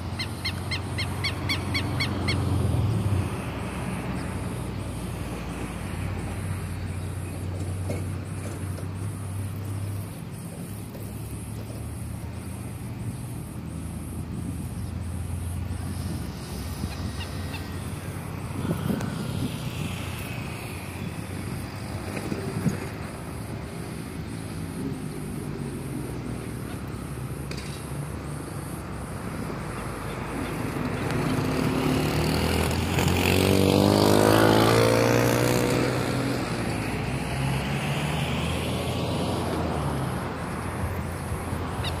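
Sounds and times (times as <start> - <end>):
low rumble of traffic: 0.0 - 42.0
vehicle passing close: 0.0 - 42.0.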